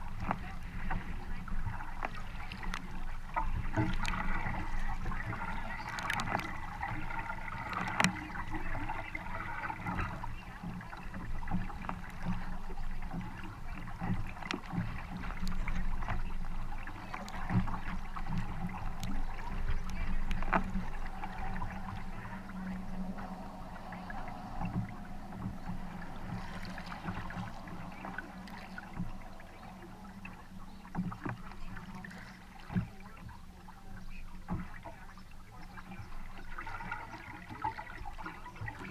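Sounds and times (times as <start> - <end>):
paddle strokes in water: 0.0 - 38.9
water rushing along hull: 0.0 - 38.9.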